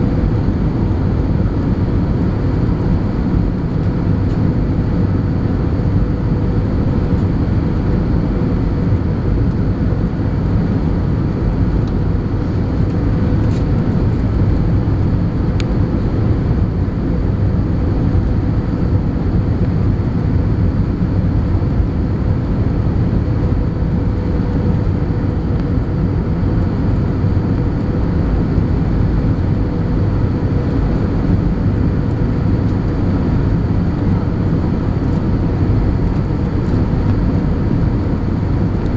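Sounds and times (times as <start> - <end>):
jet engine and airflow rush: 0.0 - 38.9
steady mid-pitched hum: 0.0 - 38.9.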